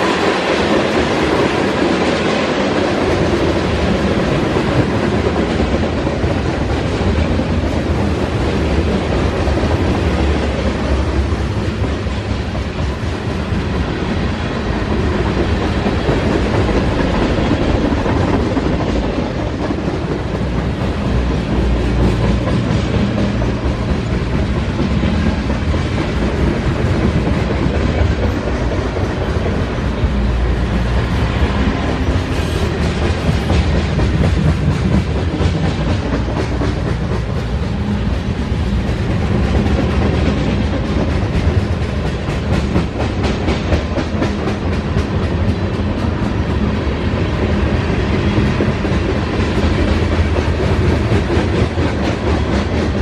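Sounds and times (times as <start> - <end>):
steel wheels rumbling on rail: 0.0 - 53.0.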